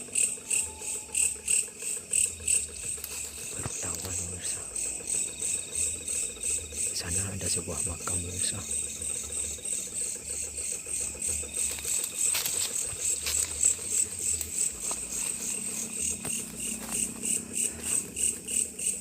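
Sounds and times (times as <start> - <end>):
insects chirring in pulses: 0.0 - 19.0.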